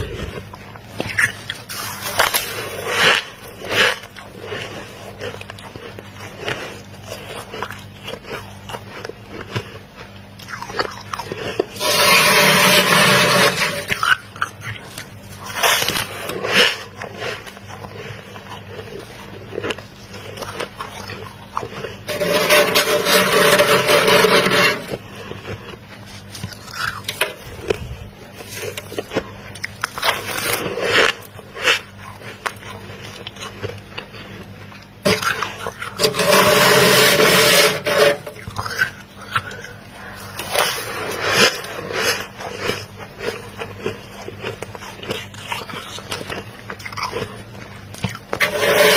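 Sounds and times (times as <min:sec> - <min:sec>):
crunchy chewing of ice: 0:00.0 - 0:48.9
spoon scraping frost: 0:00.0 - 0:48.9.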